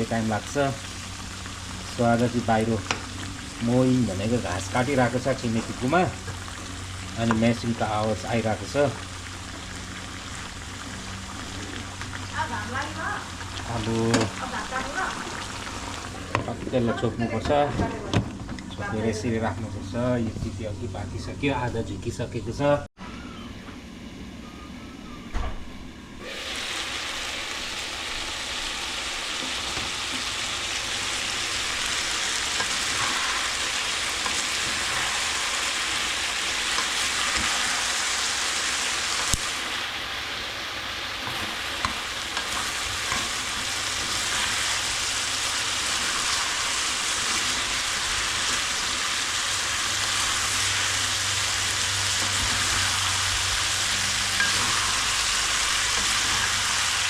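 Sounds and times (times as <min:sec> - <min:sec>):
food sizzling in hot oil: 0:00.0 - 0:17.0, 0:26.2 - 0:57.0.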